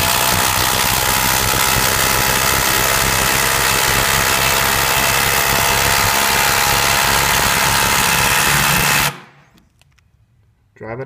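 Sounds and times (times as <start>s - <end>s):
impact driver hammering: 0.0s - 9.4s.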